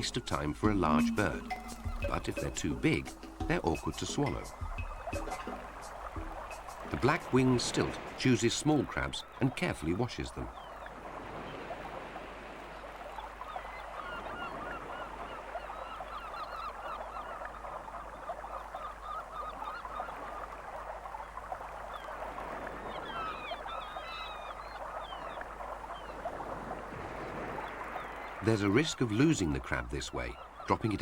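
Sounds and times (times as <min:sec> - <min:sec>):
shorebirds calling: 0:00.0 - 0:31.0.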